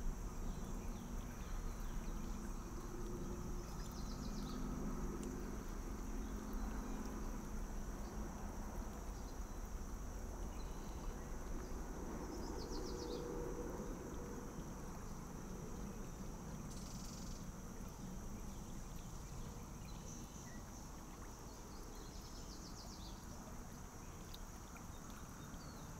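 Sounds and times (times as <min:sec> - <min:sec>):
river water rippling over gravel: 0:00.0 - 0:25.9.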